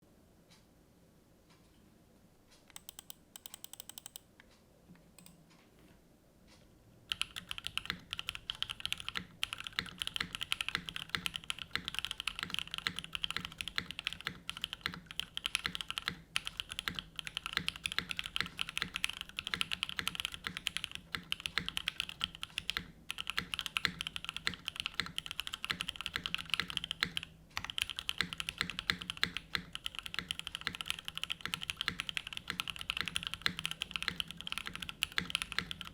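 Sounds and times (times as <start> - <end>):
mechanical keyboard typing: 2.7 - 4.3, 5.2 - 5.4, 7.1 - 35.9.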